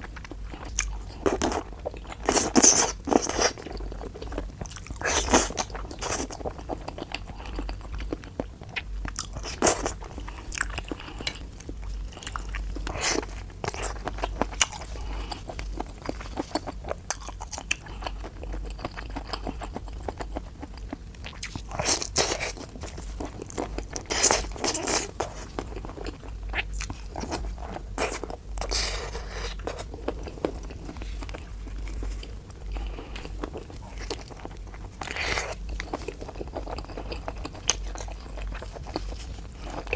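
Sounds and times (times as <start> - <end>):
biting and chewing food: 0.0 - 39.9.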